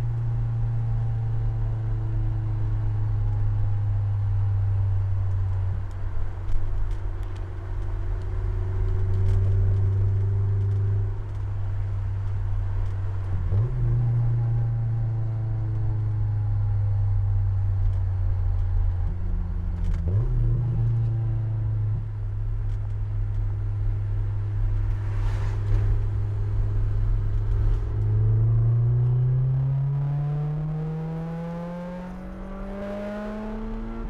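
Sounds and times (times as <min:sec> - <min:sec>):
car engine running while driving: 0:00.0 - 0:34.0.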